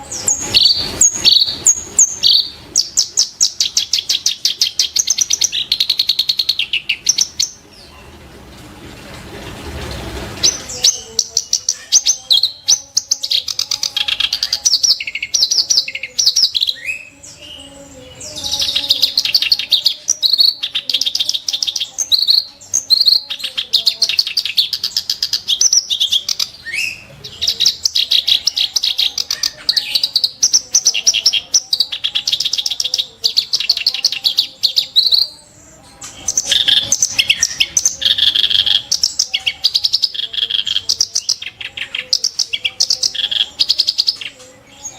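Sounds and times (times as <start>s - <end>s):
reed warbler singing: 0.0s - 7.9s, 10.4s - 44.9s.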